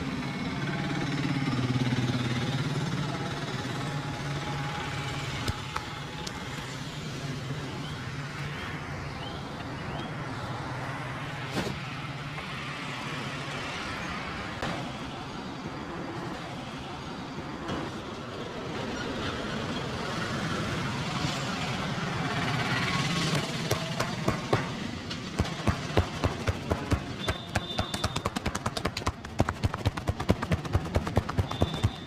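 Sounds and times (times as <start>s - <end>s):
street traffic with engine hum: 0.0s - 32.0s.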